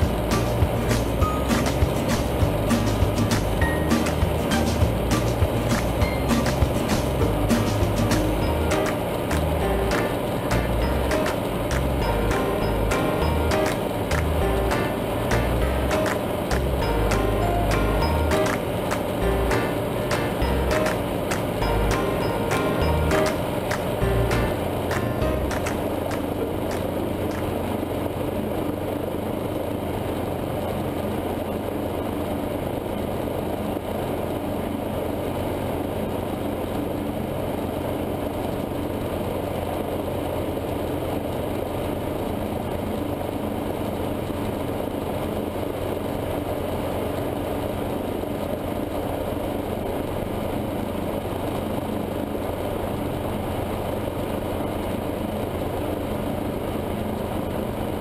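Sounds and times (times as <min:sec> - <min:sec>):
helicopter engine and rotors drone: 0:08.7 - 0:17.7, 0:18.3 - 0:58.0.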